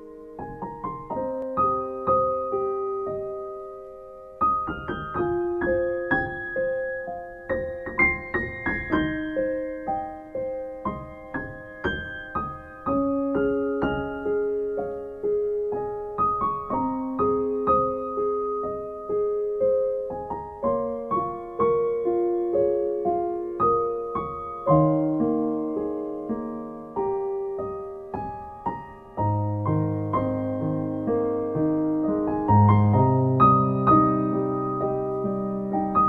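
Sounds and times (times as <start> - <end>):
gentle piano melody: 0.0 - 36.0
held piano chords: 0.0 - 36.0.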